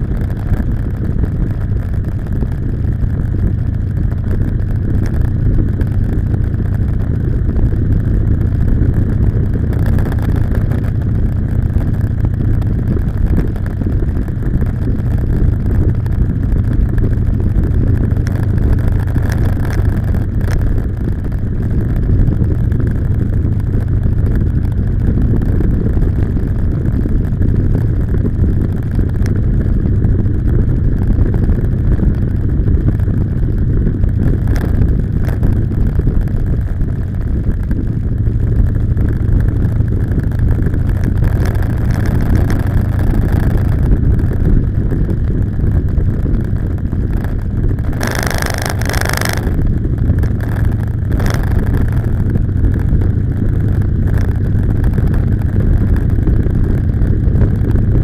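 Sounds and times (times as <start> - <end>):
motorcycle engine running: 0.0 - 58.0
road and wind rush: 0.0 - 58.0.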